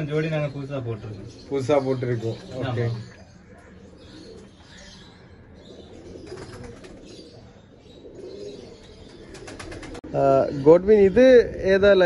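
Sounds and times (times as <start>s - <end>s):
pigeons cooing: 0.0s - 11.2s.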